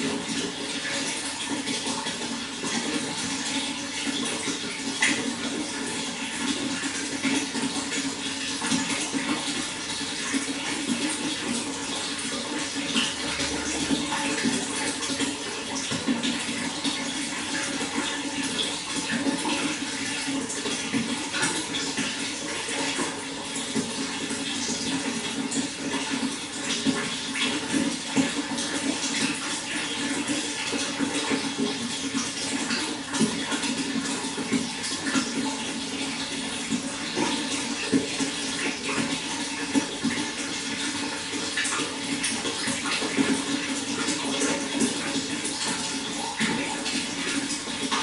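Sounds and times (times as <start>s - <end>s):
running water splashing: 0.0s - 48.0s.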